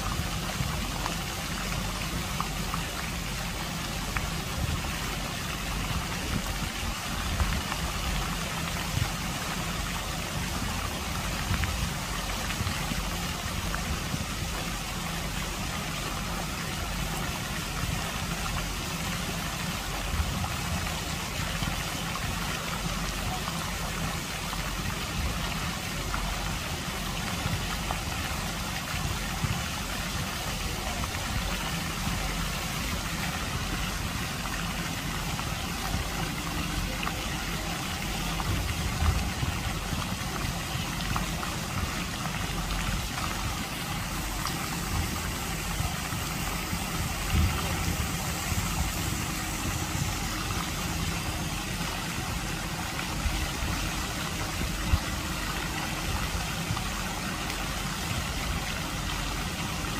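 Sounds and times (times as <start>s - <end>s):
fountain jets splashing on water: 0.0s - 59.9s.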